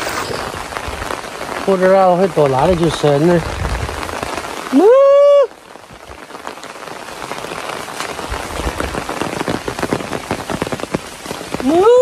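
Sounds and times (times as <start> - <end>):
rain hiss: 0.0 - 12.0
raindrops ticking on umbrella: 0.0 - 12.0.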